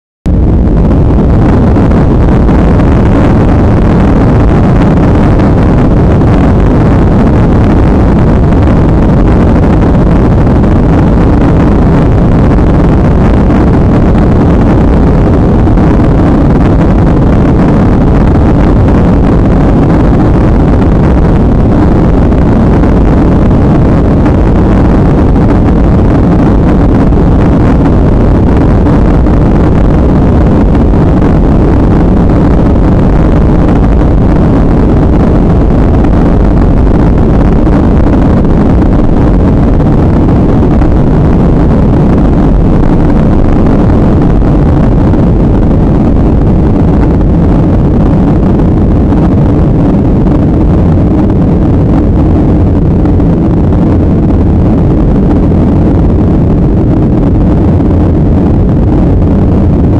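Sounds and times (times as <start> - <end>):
jet engines roaring in cabin: 0.3 - 59.9.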